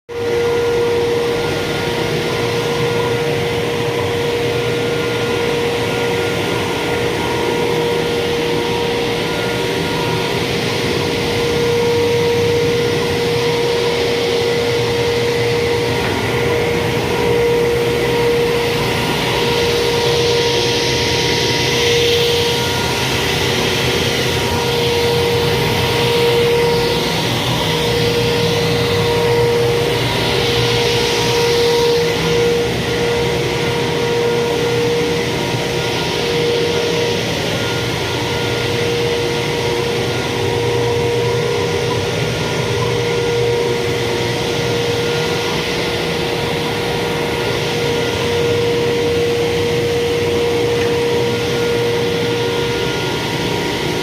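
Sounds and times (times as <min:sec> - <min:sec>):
machine whining and rushing: 0:00.1 - 0:54.0.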